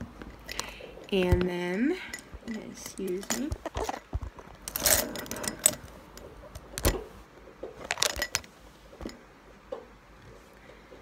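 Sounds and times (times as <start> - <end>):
handling knocks and clicks: 0.0 - 10.4.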